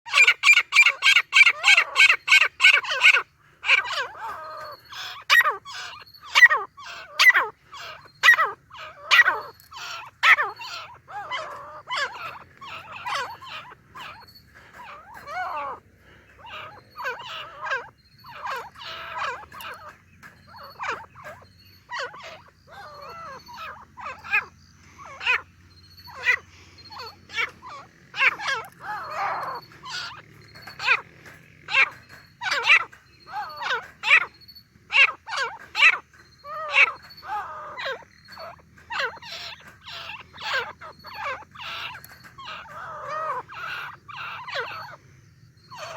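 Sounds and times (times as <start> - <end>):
francolin calling: 0.1 - 45.9.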